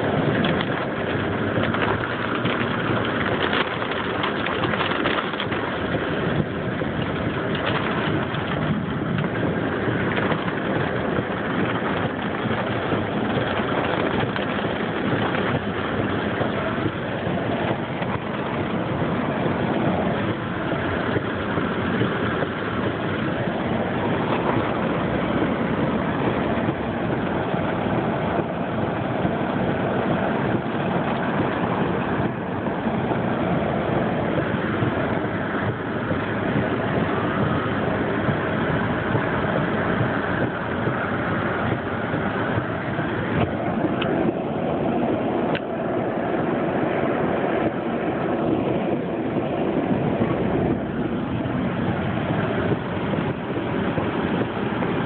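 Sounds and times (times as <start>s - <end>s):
falling rain: 0.0s - 55.0s
tyres on wet pavement: 0.0s - 55.0s.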